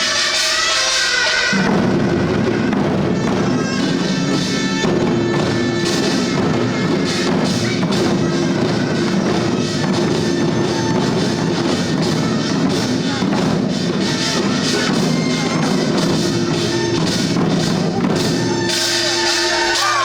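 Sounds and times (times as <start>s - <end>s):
barrel drums beaten: 1.1s - 20.0s.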